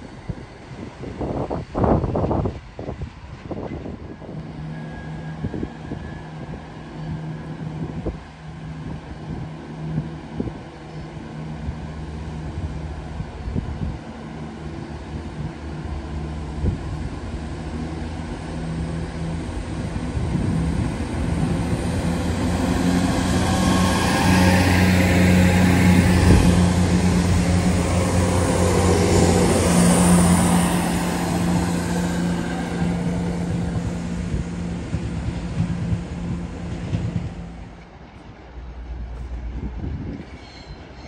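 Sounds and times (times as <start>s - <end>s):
diesel train engine hum: 0.0s - 41.0s
train running noise on rails: 0.0s - 41.0s.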